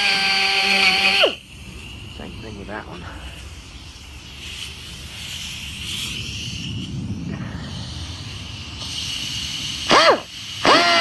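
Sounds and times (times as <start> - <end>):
air grinder high whine: 0.0 - 11.0
low rumbling noise: 0.0 - 11.0.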